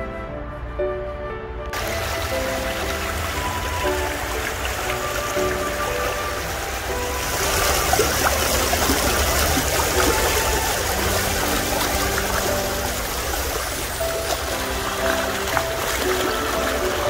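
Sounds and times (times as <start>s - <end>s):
stream water splashing over stones: 1.7s - 17.0s.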